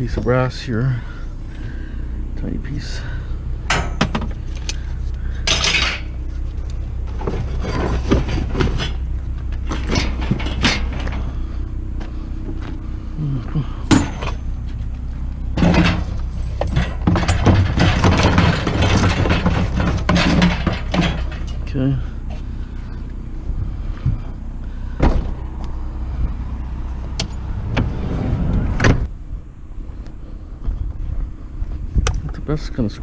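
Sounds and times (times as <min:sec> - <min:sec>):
clunks and rattles: 0:00.0 - 0:29.2, 0:29.9 - 0:32.6
vehicle engine rumbling: 0:00.0 - 0:33.0.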